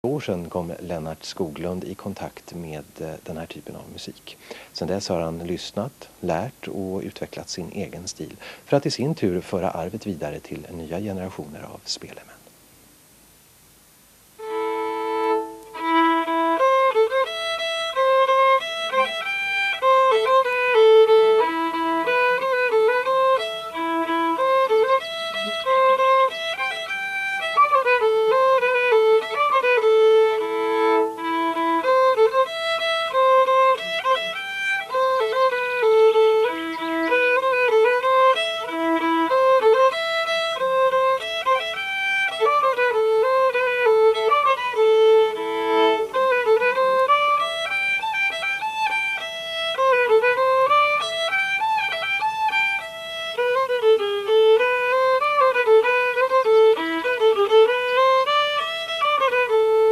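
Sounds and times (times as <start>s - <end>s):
solo fiddle folk tune: 0.0s - 12.1s, 14.3s - 59.9s.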